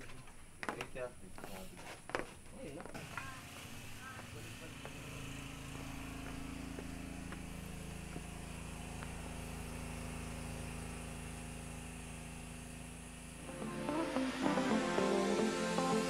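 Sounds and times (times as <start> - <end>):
distant engine hum: 2.9 - 16.0.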